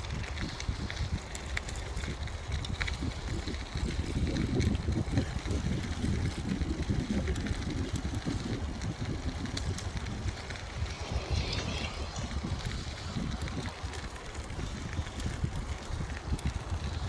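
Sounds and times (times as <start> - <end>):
bicycle tyres rolling: 0.0 - 17.0
wind on microphone: 0.0 - 17.0.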